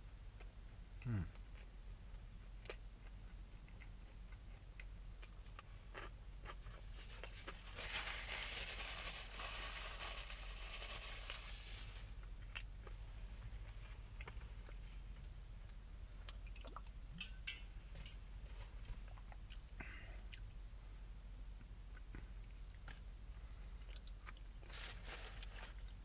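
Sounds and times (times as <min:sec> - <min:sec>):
person chewing crispy food: 0:00.4 - 0:20.7, 0:21.6 - 0:26.0.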